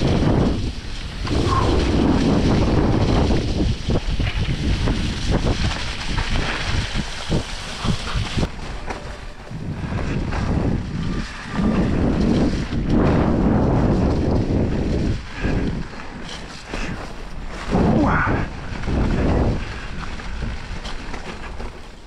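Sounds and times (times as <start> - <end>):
bike rumbling over trail: 0.0 - 22.0
wind buffeting microphone: 0.0 - 22.0.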